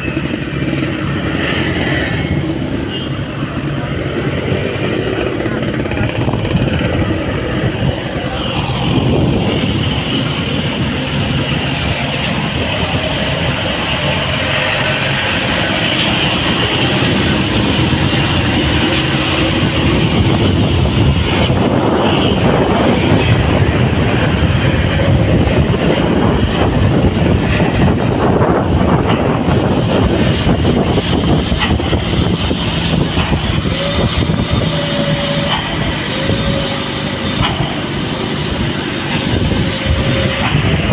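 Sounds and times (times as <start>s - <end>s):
vehicle road noise: 0.0s - 40.9s.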